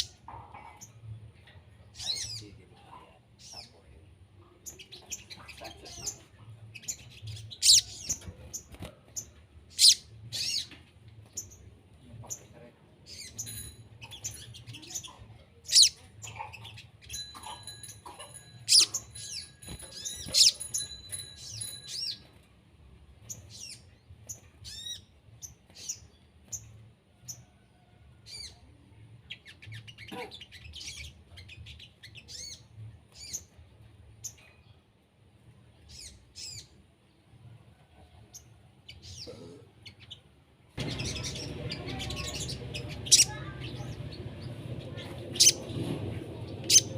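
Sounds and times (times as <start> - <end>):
songbird chirping and calling: 0.0 - 22.3, 23.2 - 34.9, 35.6 - 37.2, 38.3 - 46.9.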